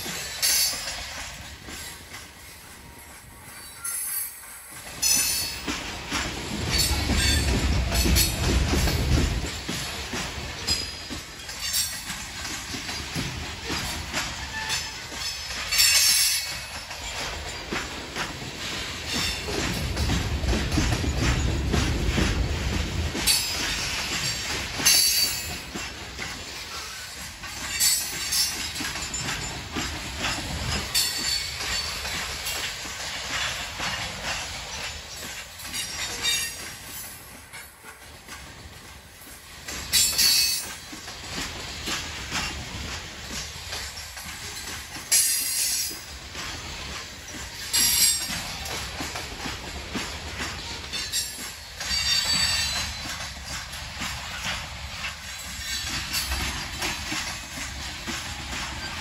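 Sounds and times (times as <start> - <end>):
train cars rumbling on rails: 0.0 - 59.0
wheels clicking over rail joints: 0.0 - 59.0.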